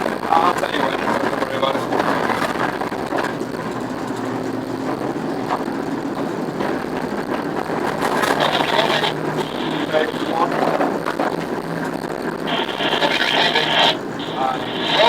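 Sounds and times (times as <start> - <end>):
locomotive diesel engine running: 0.0 - 15.0.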